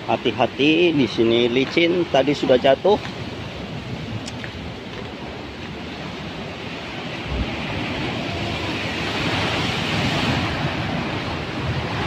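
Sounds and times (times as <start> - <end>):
surf breaking on rocky shore: 0.0 - 12.0.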